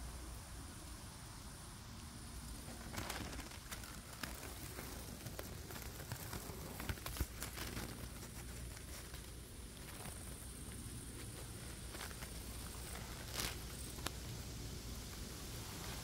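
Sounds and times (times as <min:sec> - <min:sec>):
grass rustling and crackling: 0:00.0 - 0:16.0
steady high hiss: 0:00.0 - 0:16.0.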